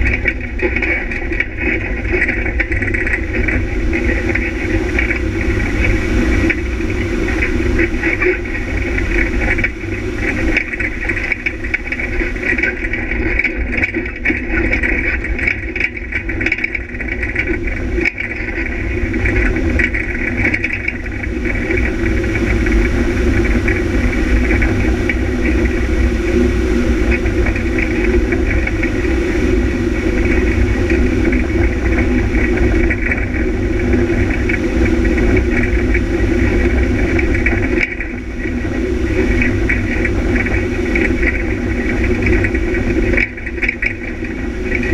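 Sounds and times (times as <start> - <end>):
rally car engine running: 0.0 - 44.9.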